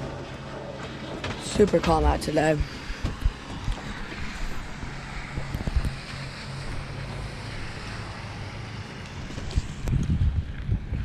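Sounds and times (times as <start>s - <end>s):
boat engine running: 0.0s - 11.0s
wind noise on microphone: 1.2s - 11.0s.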